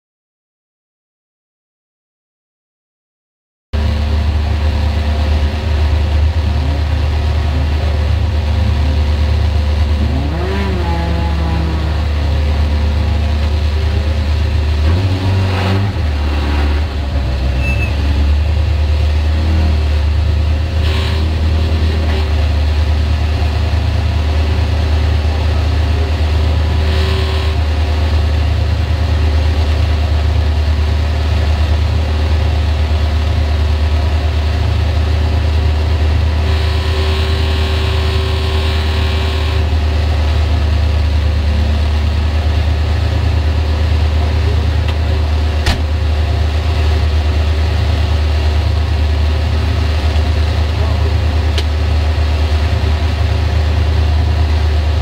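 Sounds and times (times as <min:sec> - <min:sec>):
car engine idling: 0:03.8 - 0:55.0.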